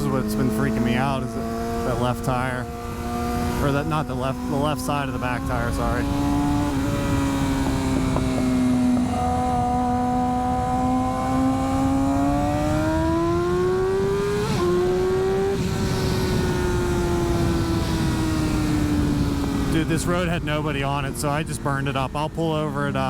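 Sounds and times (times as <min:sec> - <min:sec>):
motorcycle engine running hard: 0:00.0 - 0:23.0
wind rush on microphone: 0:00.0 - 0:23.0.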